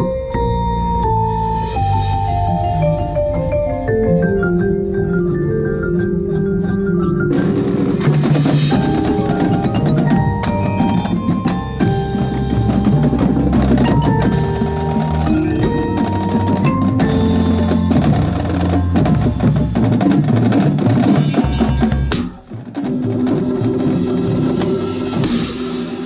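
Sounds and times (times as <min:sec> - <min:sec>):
marimba notes: 0:00.0 - 0:22.5
percussion ensemble playing: 0:00.0 - 0:26.0.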